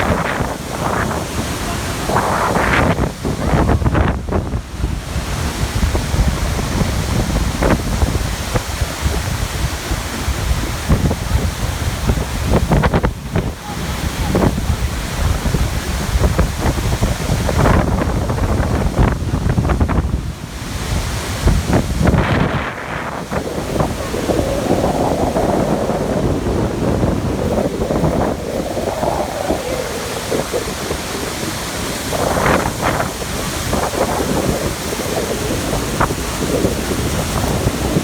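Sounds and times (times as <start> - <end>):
waterfall rushing: 0.0 - 38.0
wind buffeting microphone: 0.0 - 38.0.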